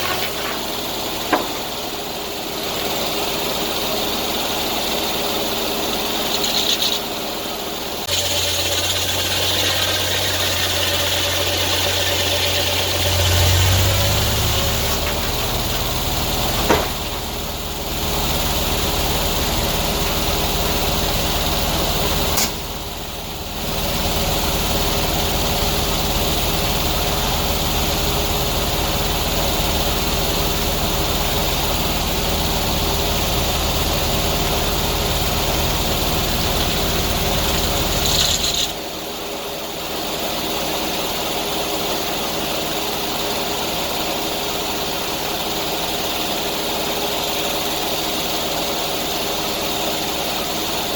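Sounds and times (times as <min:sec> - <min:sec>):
engine running: 0:00.0 - 0:50.9.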